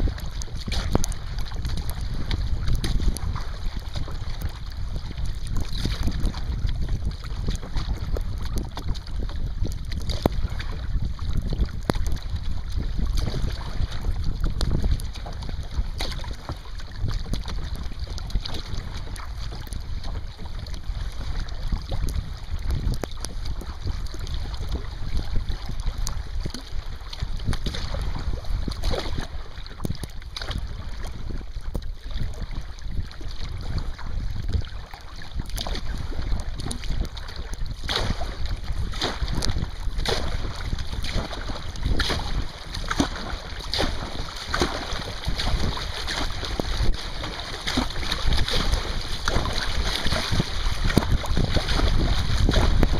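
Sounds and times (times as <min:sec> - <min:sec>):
water splashing against kayak: 0:00.0 - 0:52.9
wind buffeting microphone: 0:00.0 - 0:52.9.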